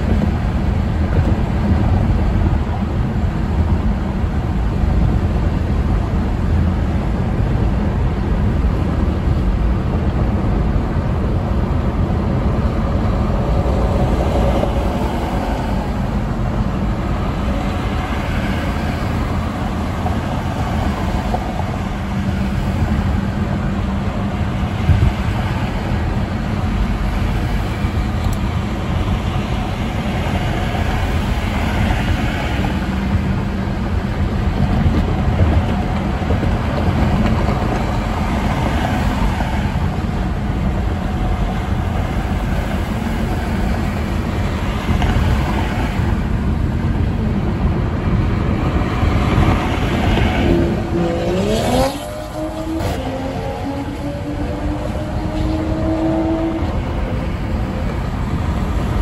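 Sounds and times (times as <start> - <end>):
engine hum: 0.0 - 59.0
tyre and road rumble: 0.0 - 59.0.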